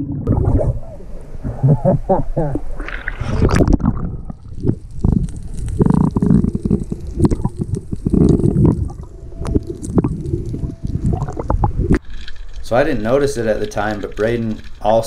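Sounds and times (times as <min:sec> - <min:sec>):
underwater rumbling and gurgling: 0:00.0 - 0:15.0.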